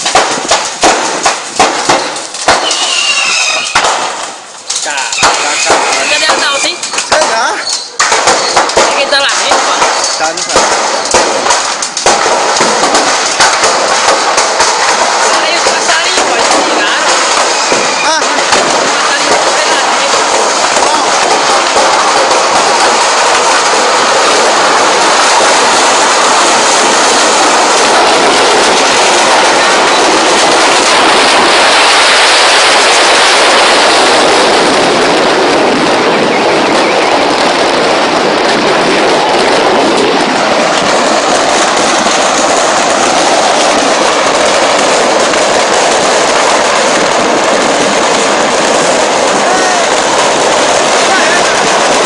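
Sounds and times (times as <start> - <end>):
fireworks crackling bangs: 0.0 - 52.0.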